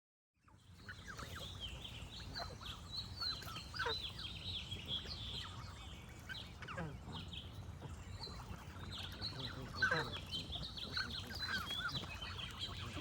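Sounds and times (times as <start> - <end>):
songbirds chirping and trilling: 0.4 - 13.0
geese honking: 0.8 - 13.0.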